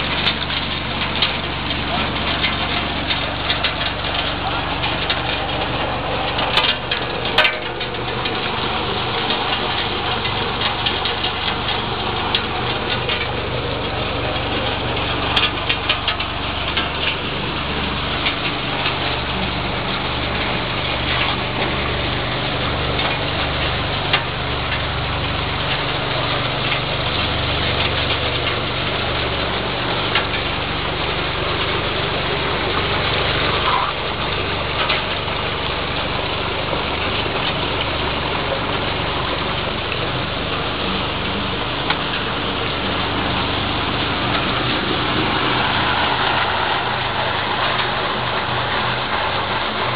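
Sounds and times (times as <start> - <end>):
machinery motor hum: 0.0 - 49.9
small ticks and rattles: 0.0 - 49.9.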